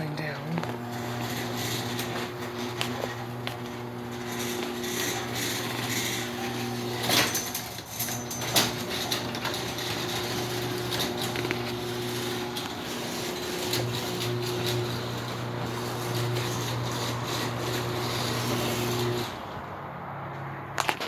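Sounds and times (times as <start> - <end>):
garage door opener motor hum: 0.0 - 19.6.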